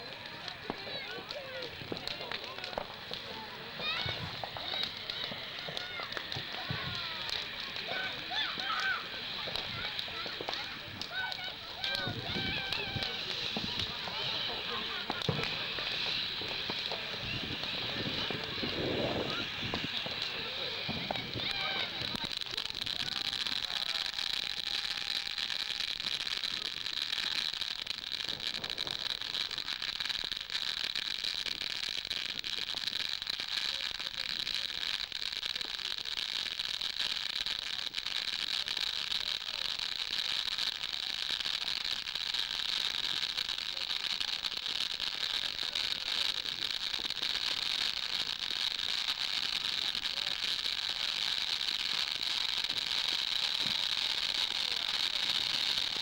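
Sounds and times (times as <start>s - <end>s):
firework fountain hissing and crackling: 0.0s - 56.0s.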